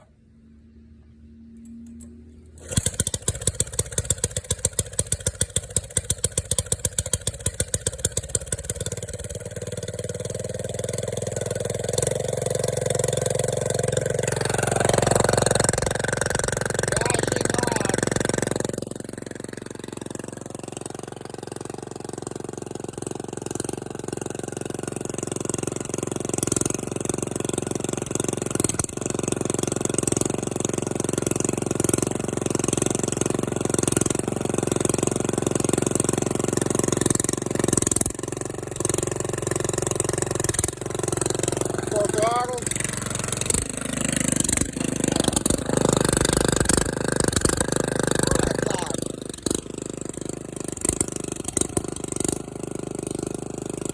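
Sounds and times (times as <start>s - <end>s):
diesel engine revving and idling: 0.0s - 53.9s
diesel engine cranking: 1.4s - 53.9s.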